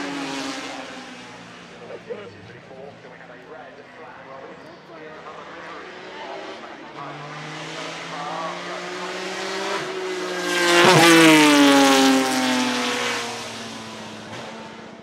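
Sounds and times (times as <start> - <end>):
race car engine passing by: 0.0 - 3.3, 3.9 - 15.0.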